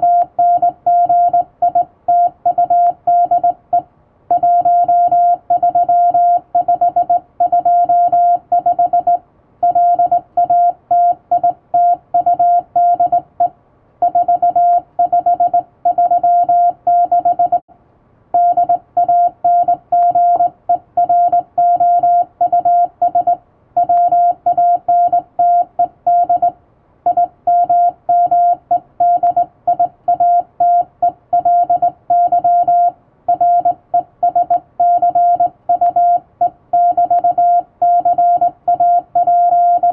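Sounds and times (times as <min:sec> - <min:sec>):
morse code tone beeping: 0:00.0 - 0:03.6, 0:04.3 - 0:17.6, 0:18.4 - 0:26.5, 0:27.1 - 0:39.9.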